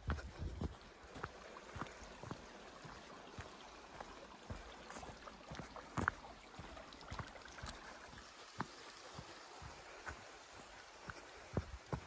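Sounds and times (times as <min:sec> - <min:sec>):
creek flowing over rocks: 0:00.0 - 0:12.0
footsteps on dirt trail: 0:00.0 - 0:12.0.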